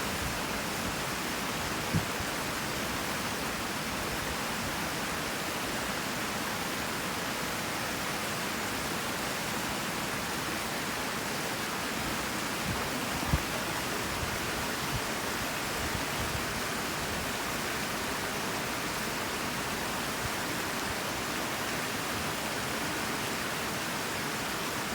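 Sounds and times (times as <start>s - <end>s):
creek water rushing over rocks: 0.0s - 24.9s.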